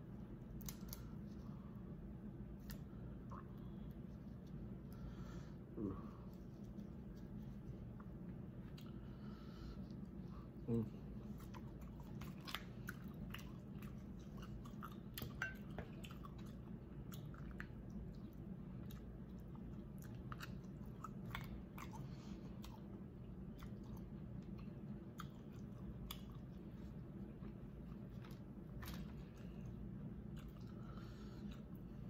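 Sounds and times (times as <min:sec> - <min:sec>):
steady low hum: 0:00.0 - 0:32.0
chewing seafood: 0:05.5 - 0:32.0.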